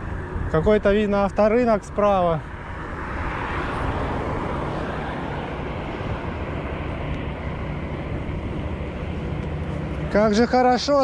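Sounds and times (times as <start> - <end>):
wind buffeting microphone: 0.0 - 10.8
passing vehicle road noise: 0.0 - 11.0.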